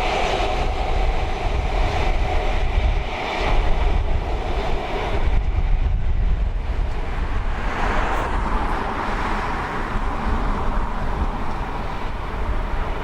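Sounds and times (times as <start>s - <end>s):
rushing noise: 0.0s - 13.0s
train wheels rumbling on rails: 0.0s - 13.0s.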